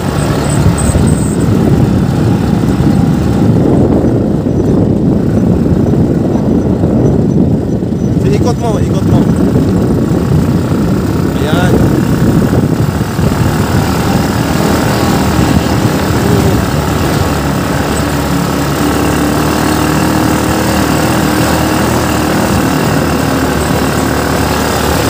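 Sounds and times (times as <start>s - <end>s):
dune buggy engine running: 0.0s - 25.0s.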